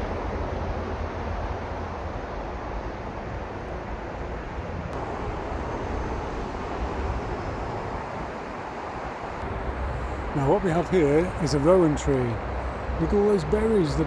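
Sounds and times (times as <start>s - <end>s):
choppy low outdoor rumble: 0.0s - 14.0s.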